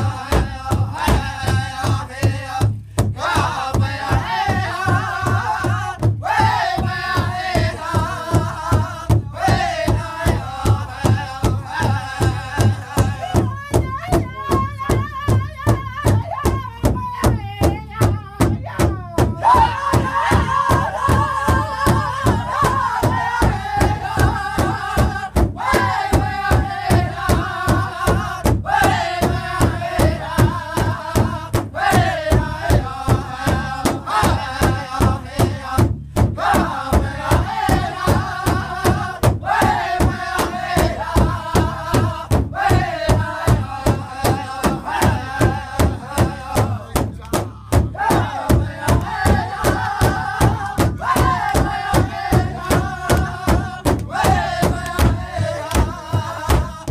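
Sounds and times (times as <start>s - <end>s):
large bass drum beating: 0.0s - 56.9s
men singing high-pitched in unison: 0.0s - 56.9s.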